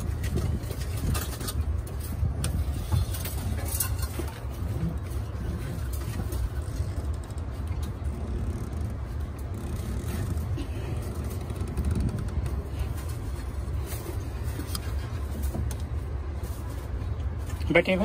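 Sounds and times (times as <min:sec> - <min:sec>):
cable scrapes and clicks: 0:00.0 - 0:16.0
low rumble: 0:00.0 - 0:17.7.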